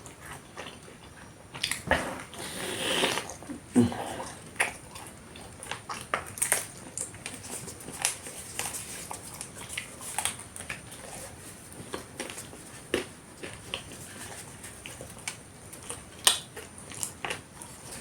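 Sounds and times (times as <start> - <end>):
chewing and lip smacking: 0.0 - 18.0.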